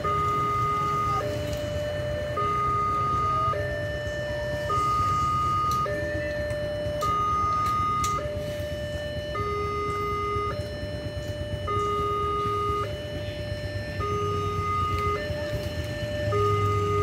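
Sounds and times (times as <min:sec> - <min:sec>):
two-tone level crossing alarm: 0:00.0 - 0:17.0.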